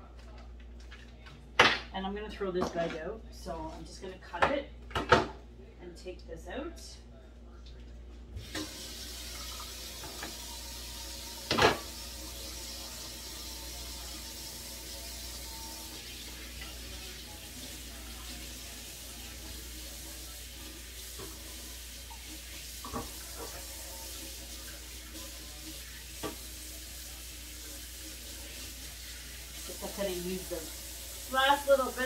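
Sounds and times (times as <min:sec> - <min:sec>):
low hum and hiss: 0:00.0 - 0:32.0.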